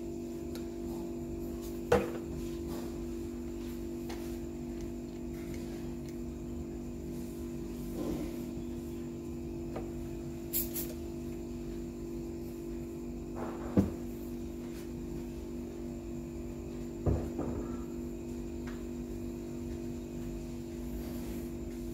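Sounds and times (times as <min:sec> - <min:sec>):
low electrical hum: 0:00.0 - 0:21.9.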